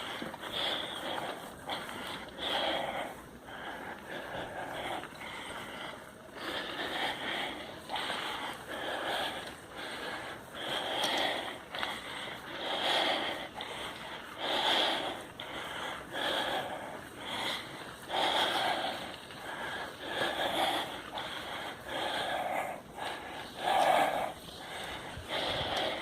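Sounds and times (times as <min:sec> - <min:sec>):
person breathing hard: 0:00.0 - 0:26.0.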